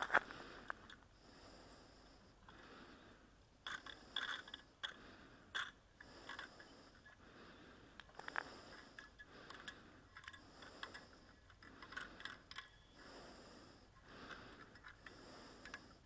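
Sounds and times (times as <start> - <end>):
faint breathing and sniffing: 0.1 - 16.0.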